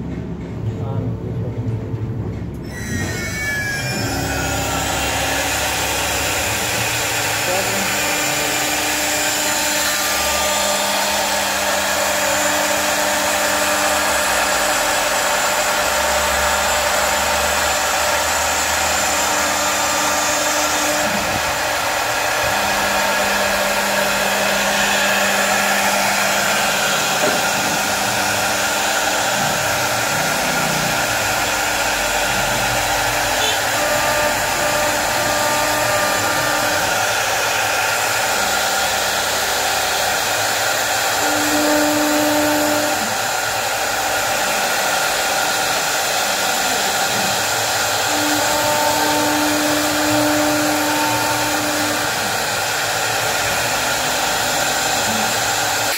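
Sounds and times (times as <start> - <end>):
router spindle whining: 2.6 - 55.9.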